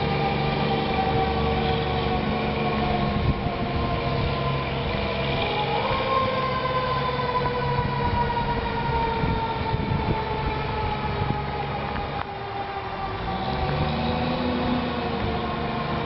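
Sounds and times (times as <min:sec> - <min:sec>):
fire engine siren wailing: 0:00.0 - 0:16.0.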